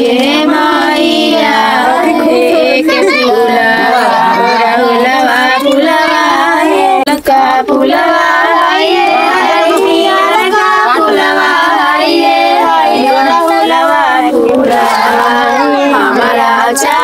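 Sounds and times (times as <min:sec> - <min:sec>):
women and girls singing folk song: 0:00.0 - 0:17.0.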